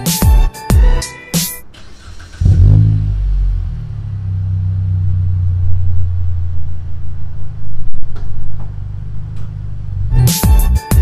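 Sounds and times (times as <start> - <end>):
car engine idling: 1.6 - 11.0.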